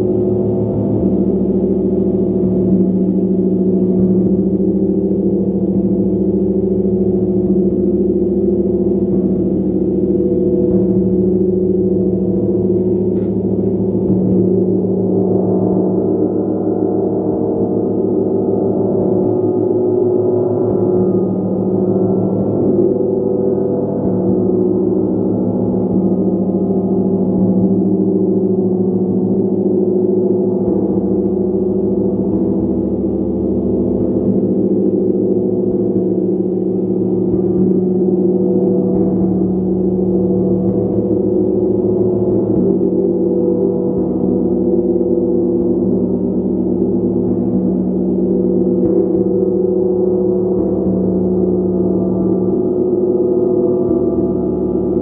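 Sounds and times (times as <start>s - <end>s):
gong ringing: 0.0s - 55.0s.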